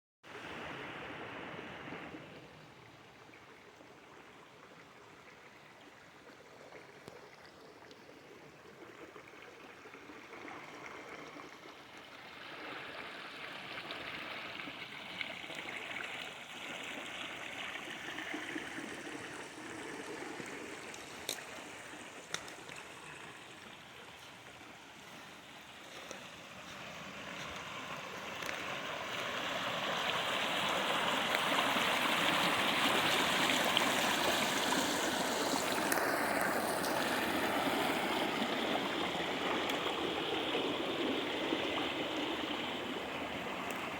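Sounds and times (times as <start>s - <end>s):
water rushing in stream: 0.2s - 43.9s.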